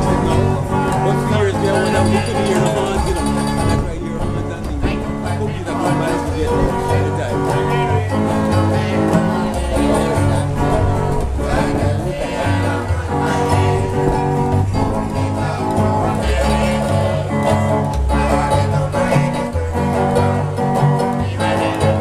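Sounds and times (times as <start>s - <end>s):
banjo picking: 0.0s - 22.0s
bass thumb piano plucking: 0.0s - 22.0s
guitar strummed through amplifier: 0.0s - 22.0s.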